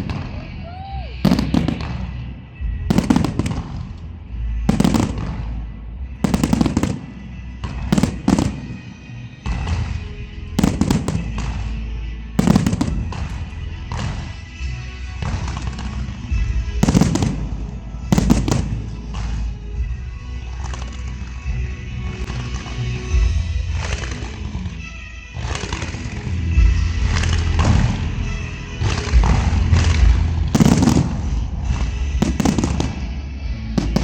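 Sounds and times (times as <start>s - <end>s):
background music: 0.0s - 34.0s
fireworks bursting: 0.0s - 34.0s.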